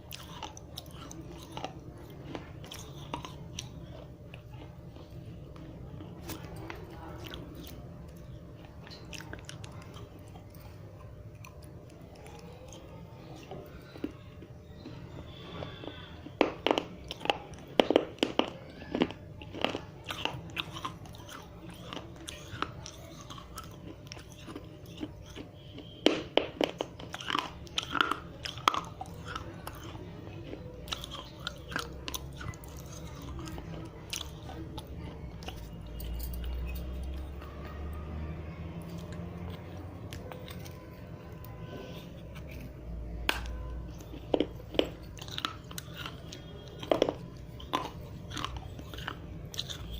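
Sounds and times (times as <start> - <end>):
clay being bitten and chewed: 0.0 - 49.9.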